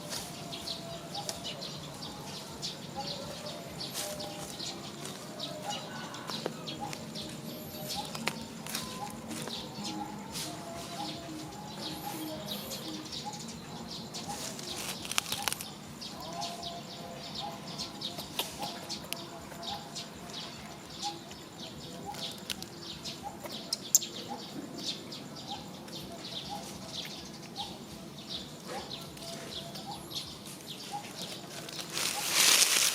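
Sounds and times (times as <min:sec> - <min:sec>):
birds chirping: 0:00.0 - 0:32.9.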